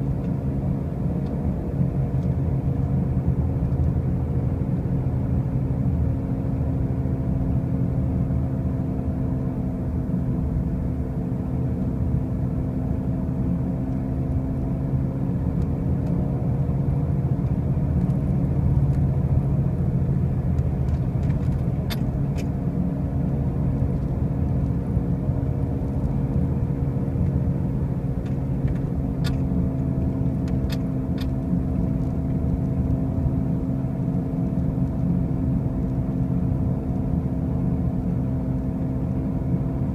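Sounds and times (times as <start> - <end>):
car road drone and hum: 0.0 - 39.9.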